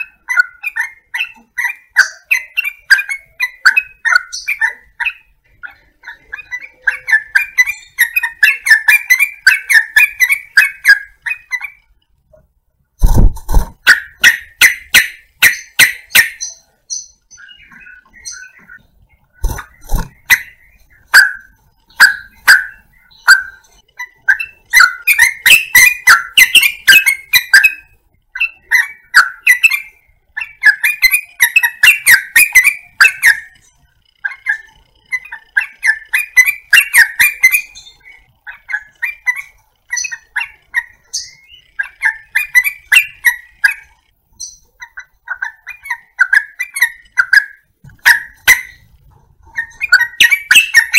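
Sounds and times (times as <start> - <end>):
bird chattering calls: 0.0 - 11.9, 13.0 - 50.9.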